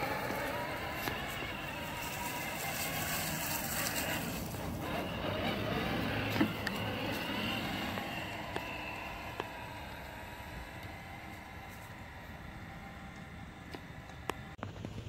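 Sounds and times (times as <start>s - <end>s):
tyre noise: 0.0s - 12.1s
rc truck electric motor: 0.0s - 14.6s.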